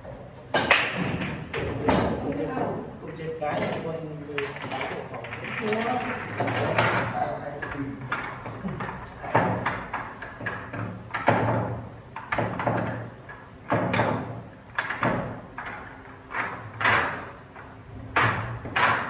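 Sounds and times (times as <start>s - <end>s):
sharp knocks: 3.5s - 19.0s.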